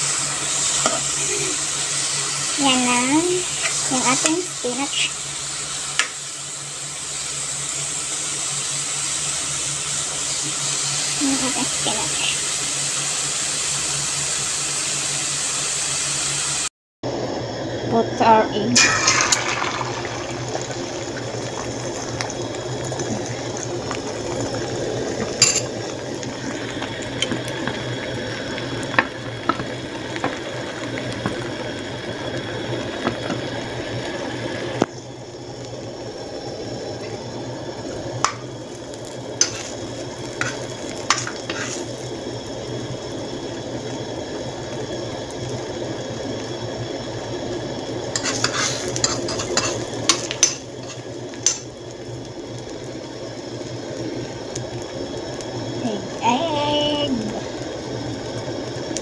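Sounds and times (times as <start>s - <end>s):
egg sizzling in a pan: 0.0s - 59.0s.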